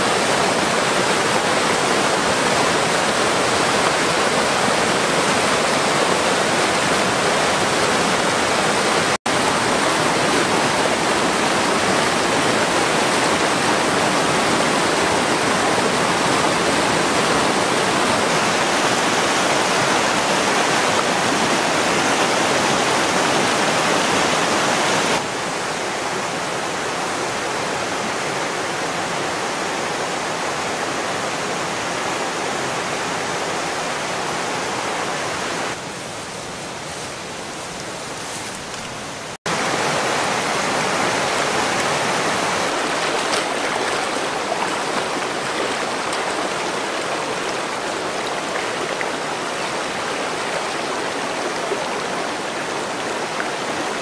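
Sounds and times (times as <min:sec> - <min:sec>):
stream rapids rushing: 0:00.0 - 0:54.0.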